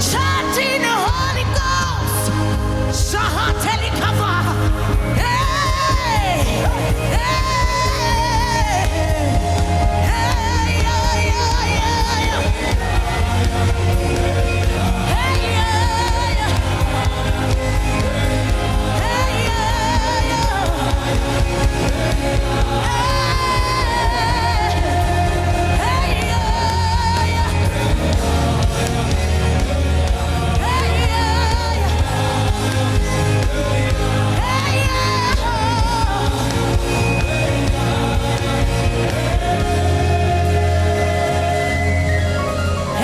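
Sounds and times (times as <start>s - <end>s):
instrumental accompaniment with bass: 0.0s - 43.0s
person singing with vibrato: 0.0s - 43.0s.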